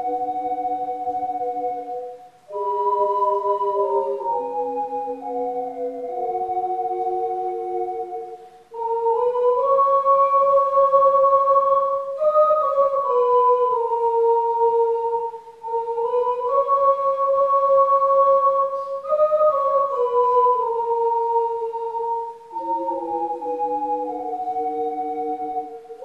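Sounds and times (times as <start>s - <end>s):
ocarina ensemble playing hymn: 0.0s - 26.0s.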